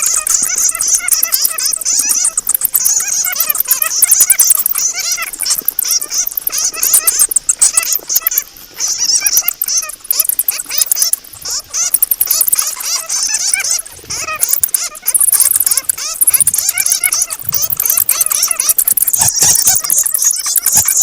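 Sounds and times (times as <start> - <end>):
bats squeaking and chattering: 0.0 - 21.0.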